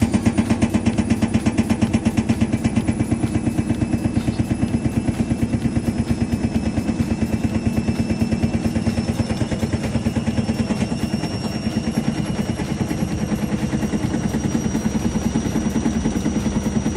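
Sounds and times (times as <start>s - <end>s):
washing machine motor hum: 0.0s - 16.9s.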